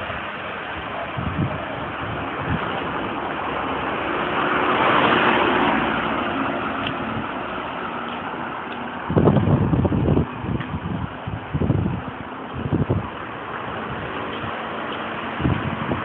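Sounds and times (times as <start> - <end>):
road noise: 0.0 - 16.0
wind on microphone: 0.0 - 16.0.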